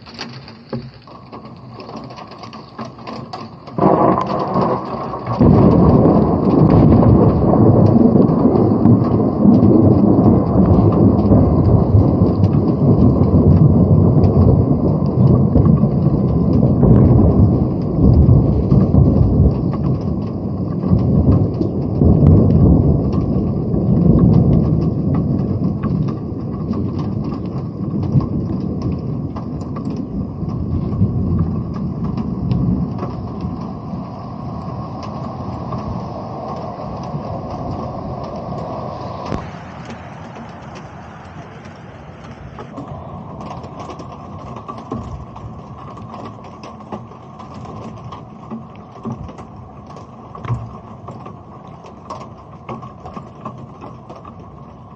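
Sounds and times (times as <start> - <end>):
raindrops tapping on camera: 0.0 - 54.9
steady rain: 0.0 - 54.9
thunder rumbling: 0.0 - 54.9.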